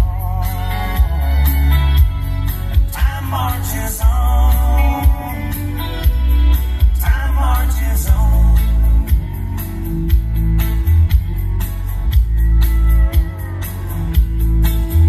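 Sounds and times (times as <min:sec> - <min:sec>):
guitar: 0:00.0 - 0:15.0
steady drum beat: 0:02.0 - 0:15.0.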